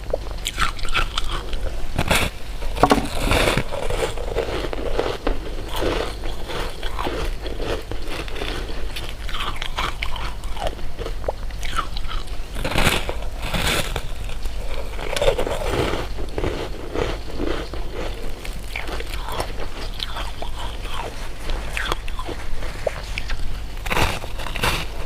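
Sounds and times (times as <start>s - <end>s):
person chewing crunchy candy: 0.0s - 25.0s.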